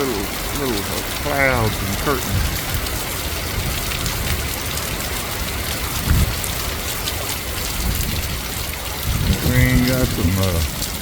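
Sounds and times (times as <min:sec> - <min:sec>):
heavy wind-driven rain: 0:00.0 - 0:11.0.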